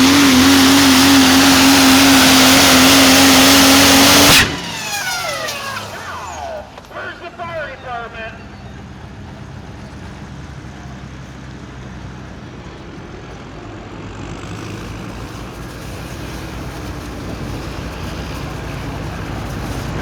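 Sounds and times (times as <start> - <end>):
pulling engine running hard: 0.0 - 20.0.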